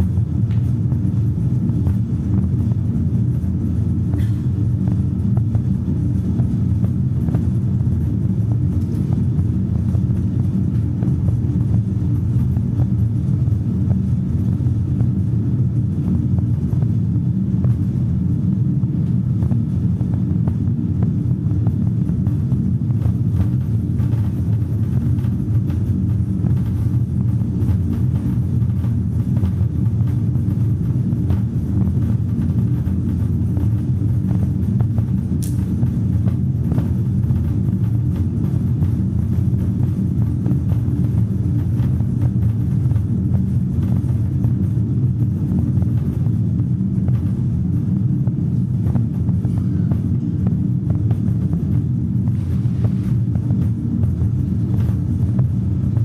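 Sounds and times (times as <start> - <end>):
low rumbling drone: 0.0 - 56.0.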